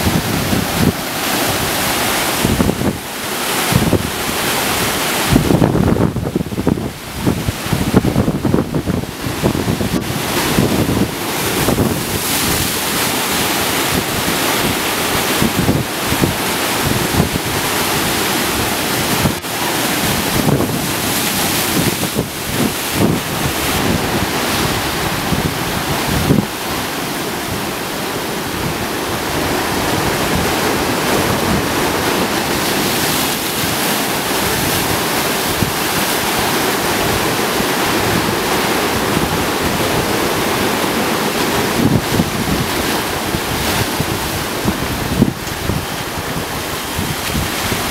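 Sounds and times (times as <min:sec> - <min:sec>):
surf breaking against rocks: 0:00.0 - 0:47.9.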